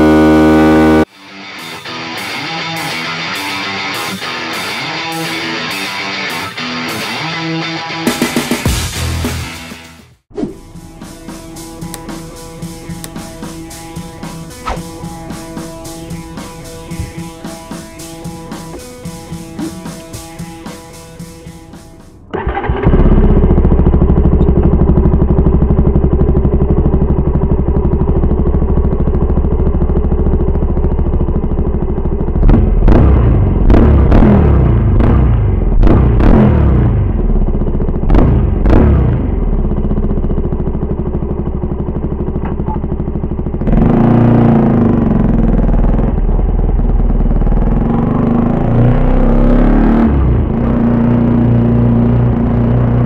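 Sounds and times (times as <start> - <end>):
motorcycle engine idling and revving: 0.0 - 1.1, 8.1 - 53.0.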